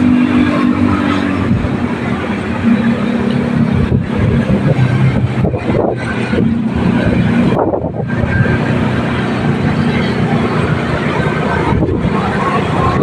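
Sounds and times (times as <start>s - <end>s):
strong wind against microphone: 0.0s - 13.0s.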